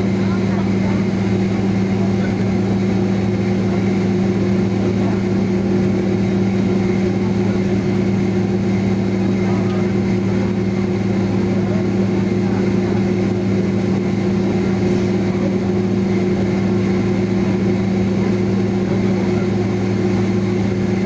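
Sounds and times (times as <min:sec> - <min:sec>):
aircraft cabin drone: 0:00.0 - 0:21.0.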